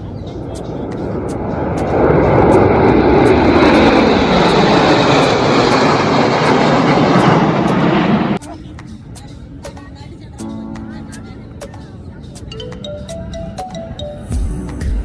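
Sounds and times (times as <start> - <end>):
low-flying aircraft engine roar: 0.0 - 14.2.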